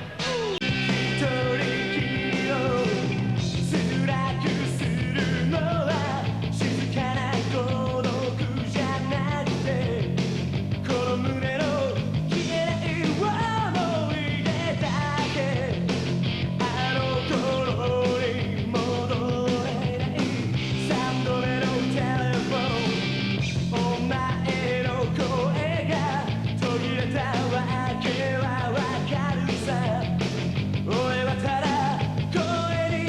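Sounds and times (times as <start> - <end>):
rock and roll band playing: 0.0 - 33.0.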